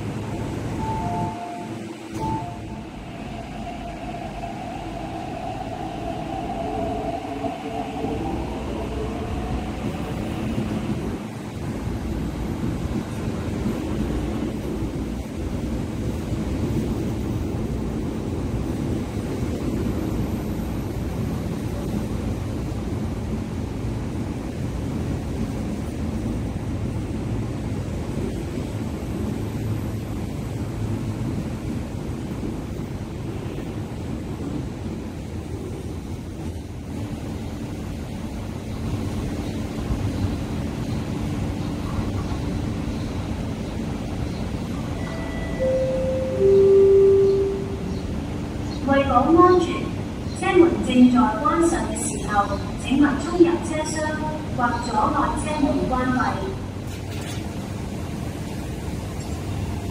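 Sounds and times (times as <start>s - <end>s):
wheels rumbling on rails: 0.0s - 50.4s.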